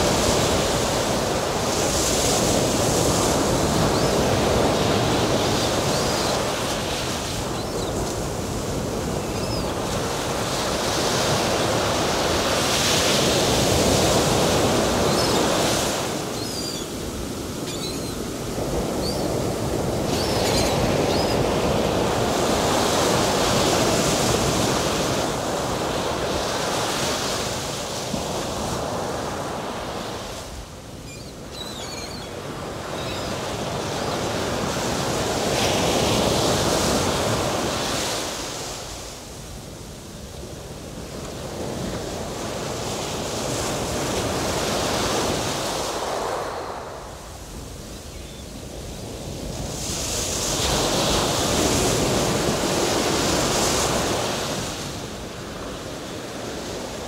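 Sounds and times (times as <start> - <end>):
ocean waves: 0.0 - 57.0.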